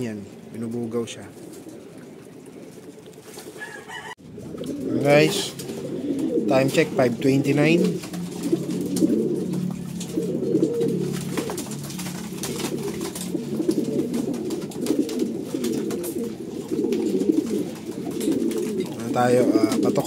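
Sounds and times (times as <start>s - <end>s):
pigeons cooing: 0.0s - 20.0s
beaks pecking on wood: 1.4s - 20.0s.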